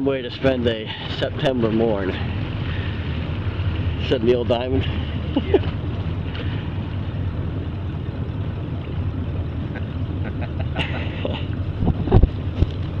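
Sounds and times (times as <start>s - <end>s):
boat engine droning: 0.0s - 13.0s
wind and water noise: 0.0s - 13.0s.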